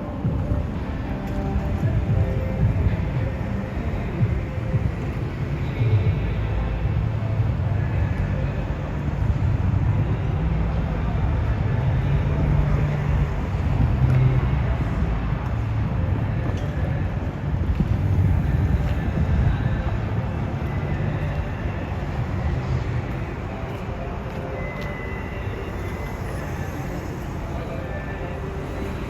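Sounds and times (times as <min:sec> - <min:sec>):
faint voices: 0:00.0 - 0:29.0
traffic rumble: 0:00.0 - 0:29.0.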